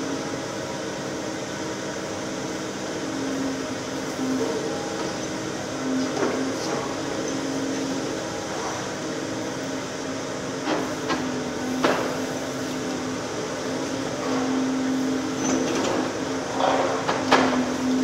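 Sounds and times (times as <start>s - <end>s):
excavator engine droning: 0.0s - 18.0s.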